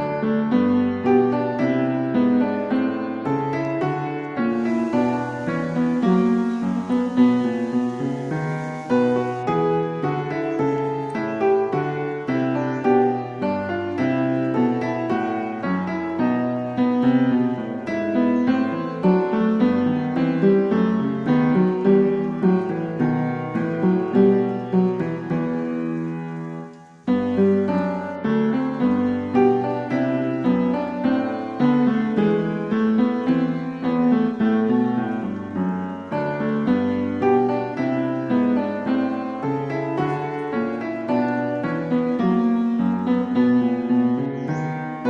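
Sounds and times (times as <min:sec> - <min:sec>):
piano music: 0:00.0 - 0:45.0.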